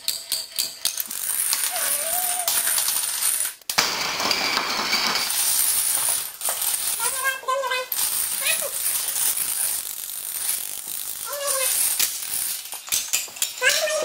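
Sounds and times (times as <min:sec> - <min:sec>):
plastic dominoes clattering: 0:00.0 - 0:14.0.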